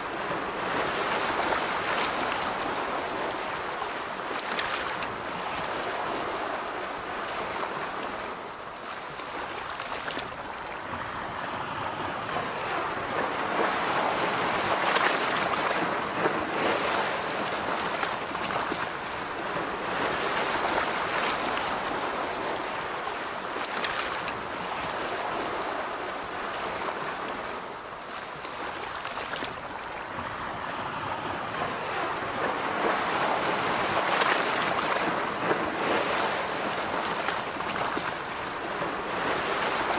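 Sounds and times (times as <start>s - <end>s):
ocean surf on beach: 0.0s - 39.9s.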